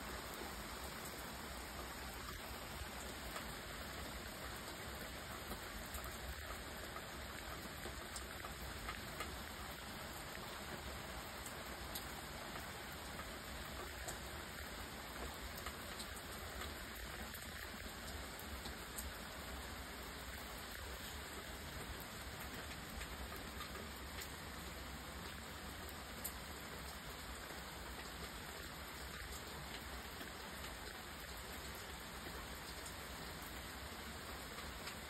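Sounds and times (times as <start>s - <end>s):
light rain falling: 0.0s - 35.0s.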